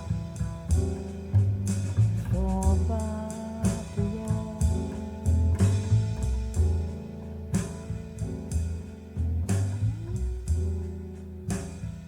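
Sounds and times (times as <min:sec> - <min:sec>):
instrumental jazz: 0:00.0 - 0:12.0.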